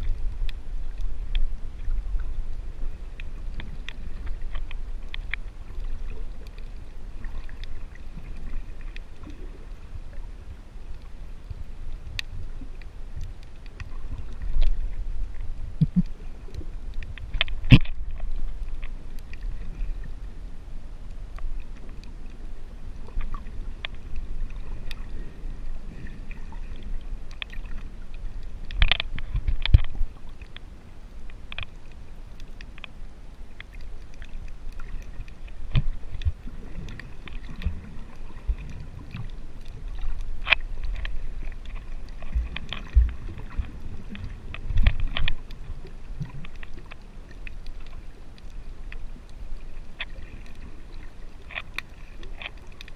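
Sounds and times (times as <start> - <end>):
underwater rumble of moving water: 0.0 - 52.9.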